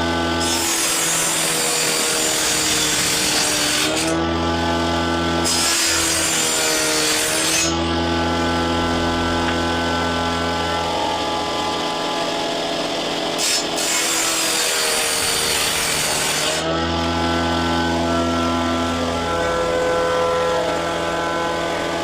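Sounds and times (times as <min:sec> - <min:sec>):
power tool cutting wood: 0:00.0 - 0:22.0
motor humming: 0:02.9 - 0:22.0.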